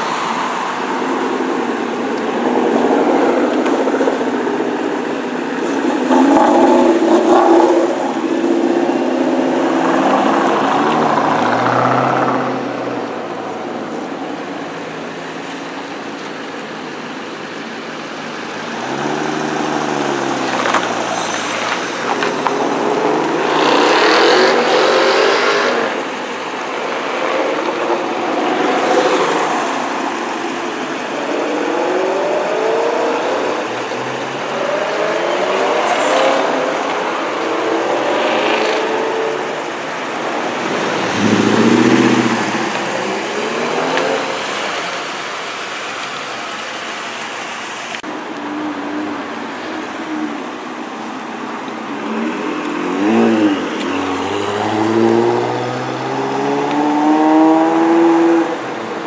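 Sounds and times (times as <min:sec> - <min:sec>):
car engines revving and accelerating: 0:00.0 - 0:59.0
car rolling past steadily: 0:00.0 - 0:59.0.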